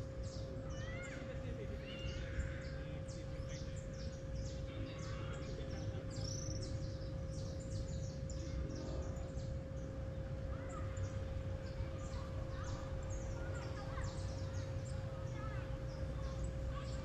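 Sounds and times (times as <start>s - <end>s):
birds chirping: 0.0s - 17.0s
faint steady hum: 0.0s - 17.0s.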